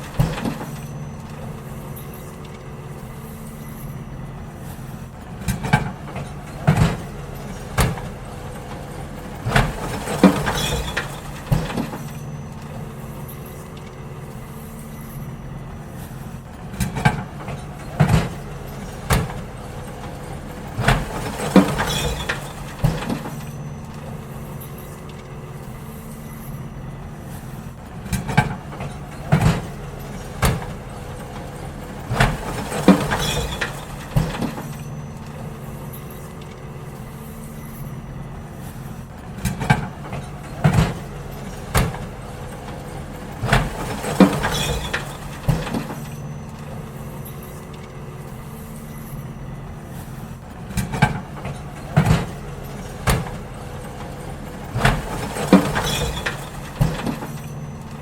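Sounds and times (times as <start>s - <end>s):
bins clanking and banging: 0.0s - 58.0s
garbage truck engine running: 0.0s - 58.0s.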